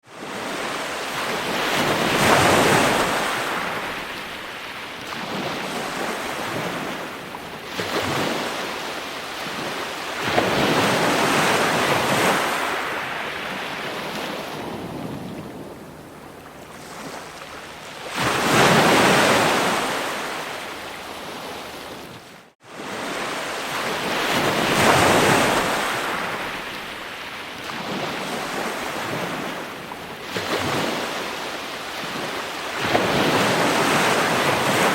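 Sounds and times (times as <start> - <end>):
ocean waves breaking on shore: 0.0 - 34.9.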